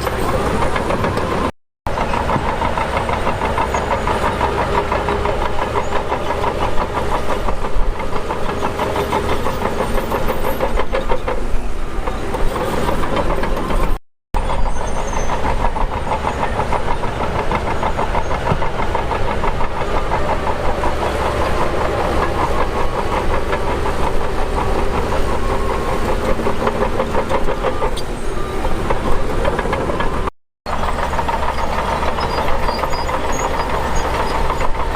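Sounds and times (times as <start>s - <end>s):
heavy machinery diesel engine: 0.0s - 34.9s.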